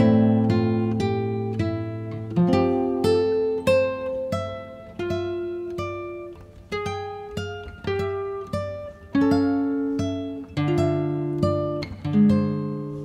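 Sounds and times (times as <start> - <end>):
plucked acoustic guitar melody: 0.0 - 13.0.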